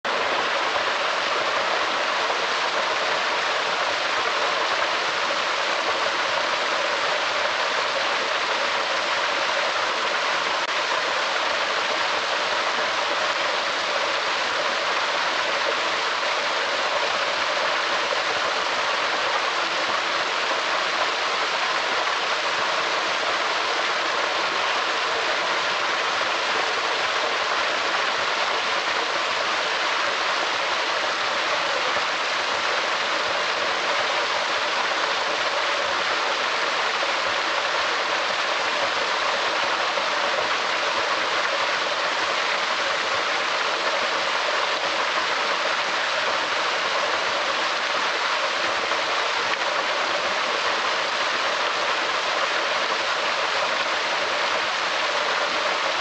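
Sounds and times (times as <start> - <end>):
waterfall splashing over rocks: 0.0 - 56.0.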